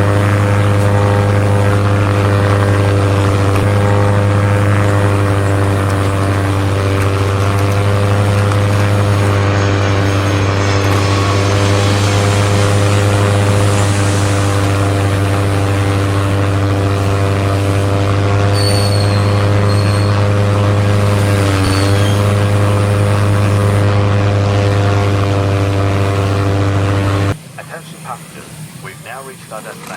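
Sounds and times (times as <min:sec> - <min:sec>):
toy aeroplane droning hum: 0:00.0 - 0:27.4.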